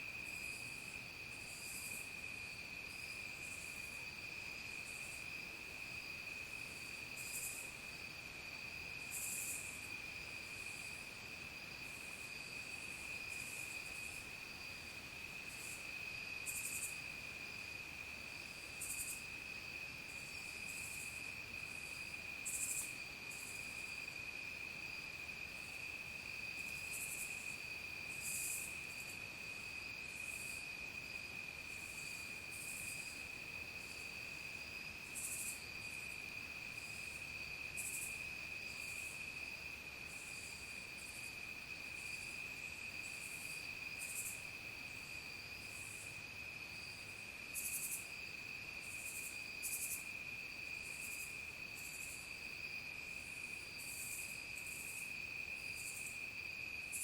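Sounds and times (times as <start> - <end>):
crickets trilling: 0.0 - 57.0
insects buzzing: 0.0 - 57.0.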